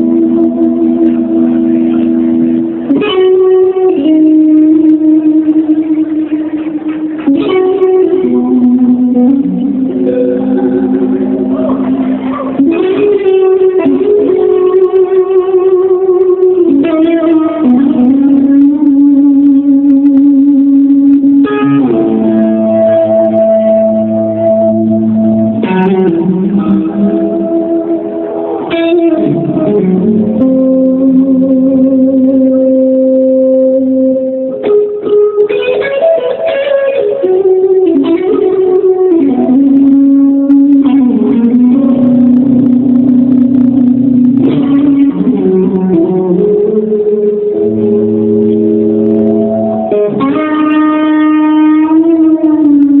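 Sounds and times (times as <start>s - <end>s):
electric guitar solo: 0.0s - 53.0s.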